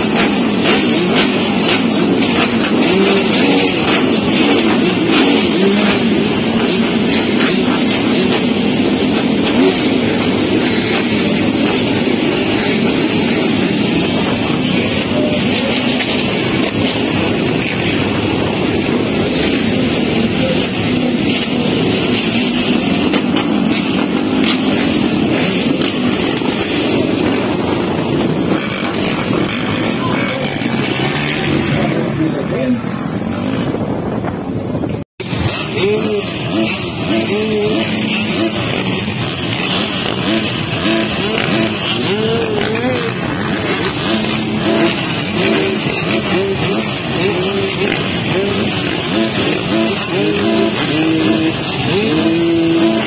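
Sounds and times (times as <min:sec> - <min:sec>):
dirt bike engines at low revs: 0:00.0 - 0:53.0.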